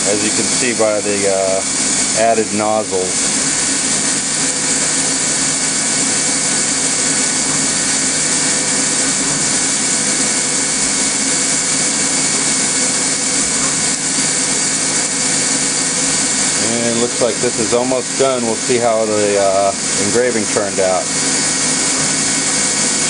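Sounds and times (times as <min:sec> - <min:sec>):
coolant spray hissing: 0:00.0 - 0:23.0
high whine of spinning tool: 0:00.0 - 0:23.0.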